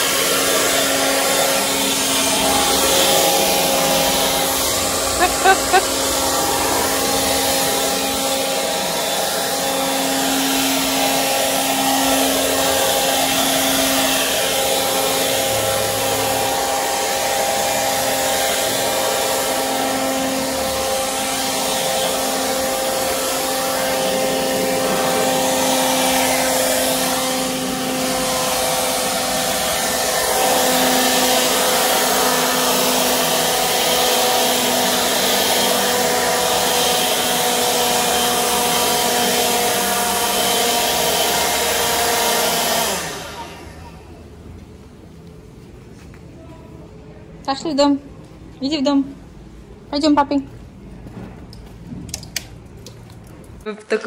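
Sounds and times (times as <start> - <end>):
leaf blower running: 0.0 - 44.5.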